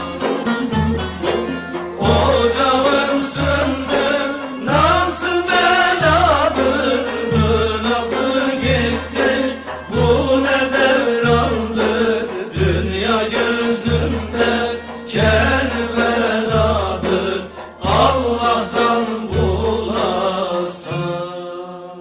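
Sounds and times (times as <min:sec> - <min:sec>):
instrumental accompaniment: 0:00.0 - 0:22.0
man singing: 0:00.7 - 0:22.0.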